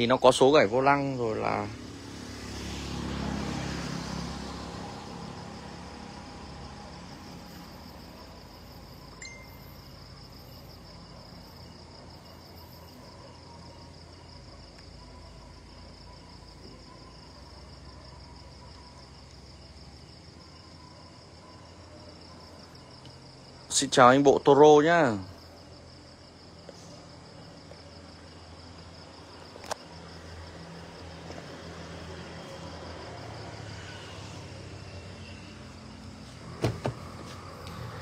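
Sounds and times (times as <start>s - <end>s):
high-pitched insect trill: 0.0s - 38.0s.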